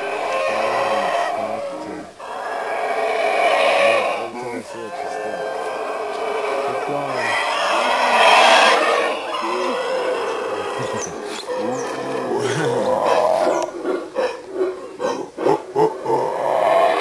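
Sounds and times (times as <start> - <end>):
howler monkey roaring: 0.0 - 17.0.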